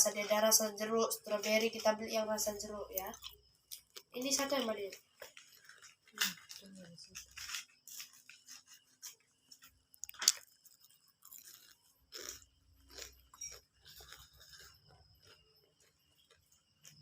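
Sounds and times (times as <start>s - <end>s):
clicks and crunchy bursts: 2.9s - 17.0s.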